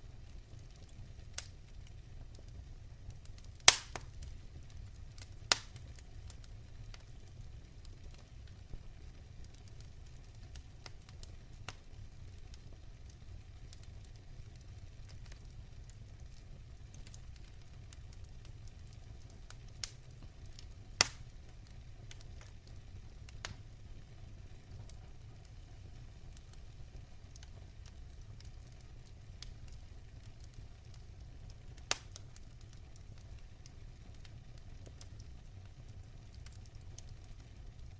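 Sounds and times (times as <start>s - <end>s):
fire crackles and pops: 0.0s - 37.9s
low rumble of flame: 0.0s - 37.9s.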